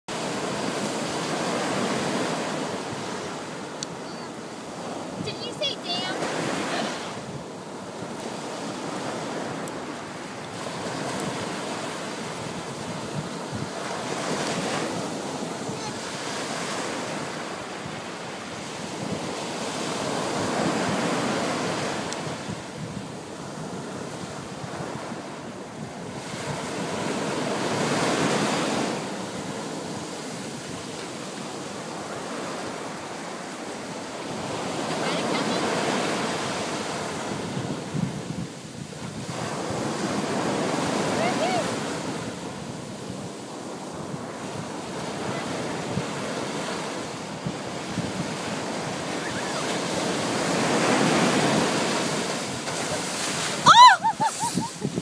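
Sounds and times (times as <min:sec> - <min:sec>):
ocean surf breaking: 0:00.1 - 0:55.0
wind buffeting microphone: 0:00.2 - 0:31.0, 0:34.3 - 0:55.0.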